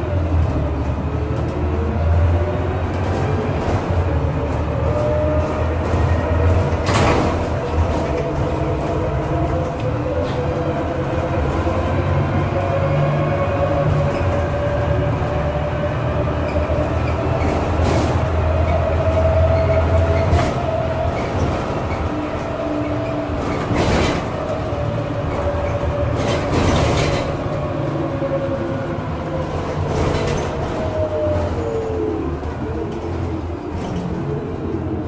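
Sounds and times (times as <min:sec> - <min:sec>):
bus engine drone: 0:00.0 - 0:35.0.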